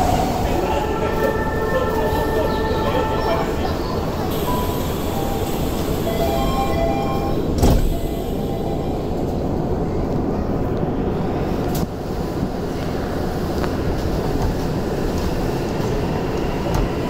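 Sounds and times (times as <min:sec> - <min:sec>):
train equipment humming: 0:00.0 - 0:17.0.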